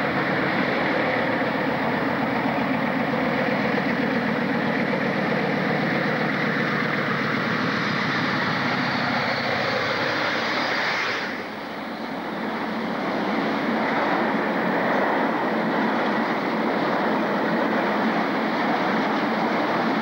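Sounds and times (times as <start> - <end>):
diesel locomotive engine: 0.0 - 20.0
low train rumble: 0.0 - 20.0.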